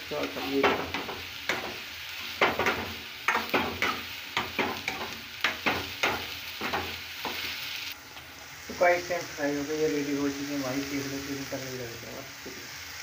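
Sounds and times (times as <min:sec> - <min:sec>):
oil frying sizzle: 0:00.0 - 0:13.0.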